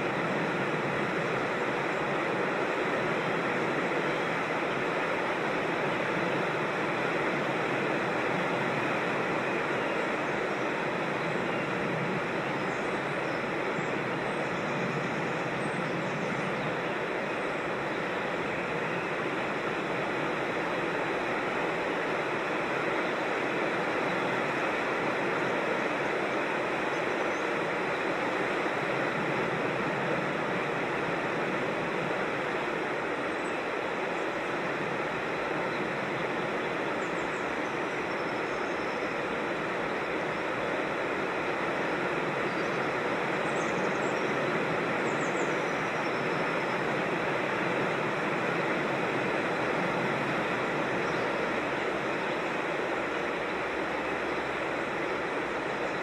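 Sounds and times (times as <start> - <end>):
rushing water of a creek: 0.0 - 56.0.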